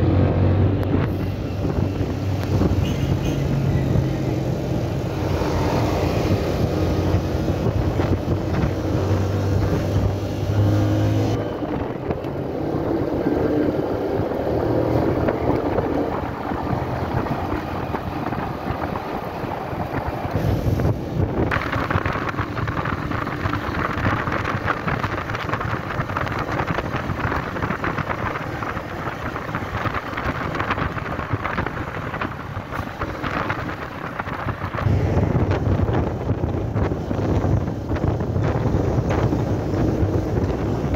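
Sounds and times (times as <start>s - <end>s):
wind rushing over microphone: 0.0s - 40.9s
motorcycle engine running: 0.8s - 40.9s.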